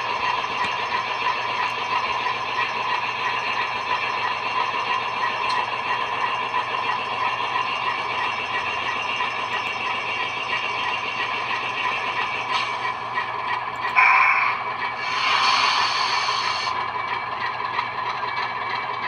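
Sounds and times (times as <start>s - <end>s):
diesel engine idling through small speakers: 0.0s - 19.0s.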